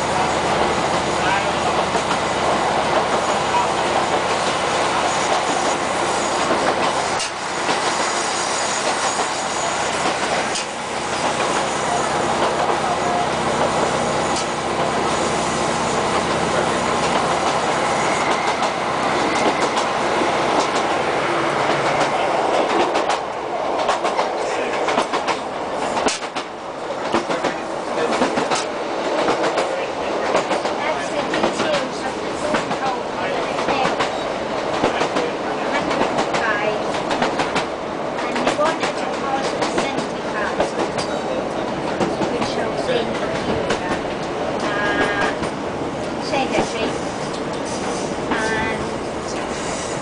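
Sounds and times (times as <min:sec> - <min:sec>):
rail-joint clicks: 0:04.0 - 0:11.7, 0:13.6 - 0:14.9, 0:17.0 - 0:50.0.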